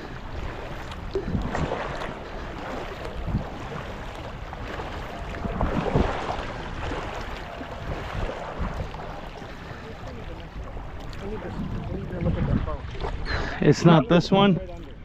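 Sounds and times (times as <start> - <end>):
wind on microphone: 0.0 - 13.6
paddle strokes splashing in water: 0.0 - 13.7.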